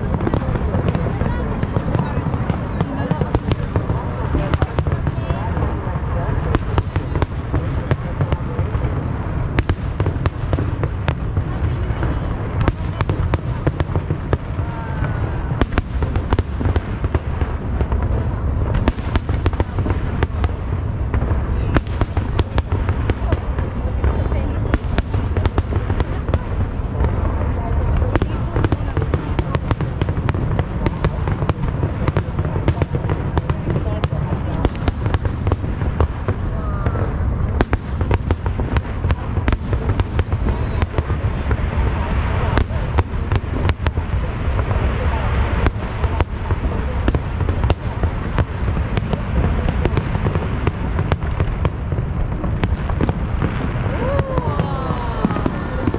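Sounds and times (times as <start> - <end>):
fireworks bangs and crackles: 0.0 - 55.9
low booming rumble: 0.0 - 55.9.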